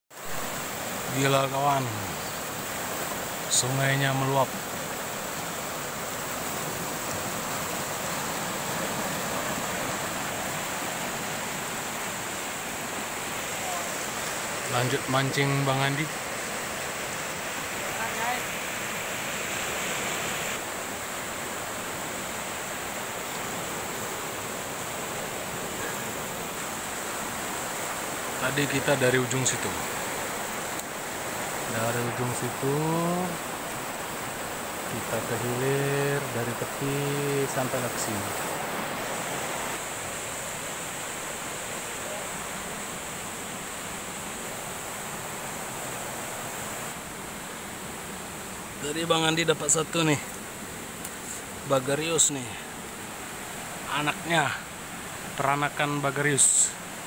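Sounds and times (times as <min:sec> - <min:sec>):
flooded river rushing: 0:00.1 - 0:57.0.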